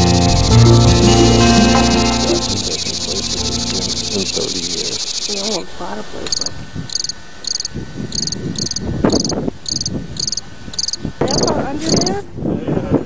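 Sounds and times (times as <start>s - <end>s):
cricket chirping: 0.0s - 12.2s.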